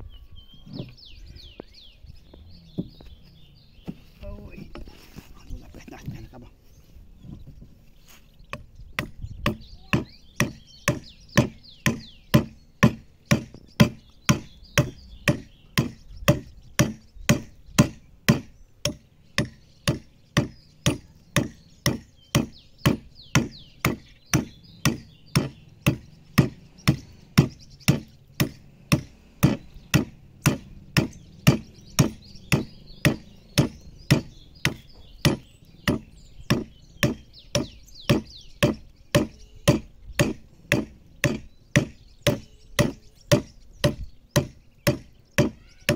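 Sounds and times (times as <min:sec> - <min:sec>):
adze chopping wood: 0:08.5 - 0:45.9.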